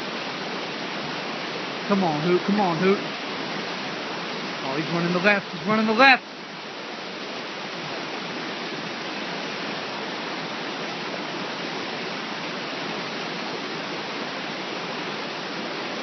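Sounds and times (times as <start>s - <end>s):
river rapids roaring: 0.0s - 16.0s.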